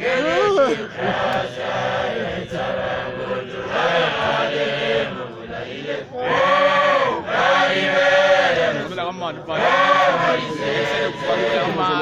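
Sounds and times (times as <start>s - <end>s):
group of voices chanting: 0.0s - 8.9s, 9.5s - 12.0s.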